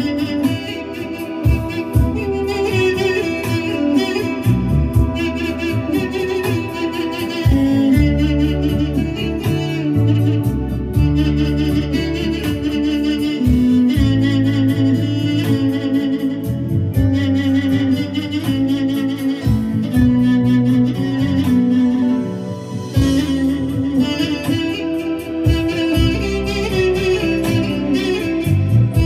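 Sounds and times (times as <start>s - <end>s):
sustained bass notes: 0.0s - 29.0s.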